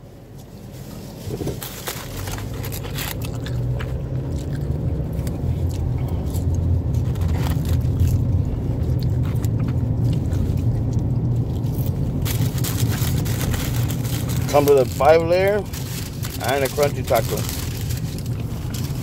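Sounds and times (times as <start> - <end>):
cardboard box and wrappers crackling: 1.0 - 5.1, 5.8 - 19.0.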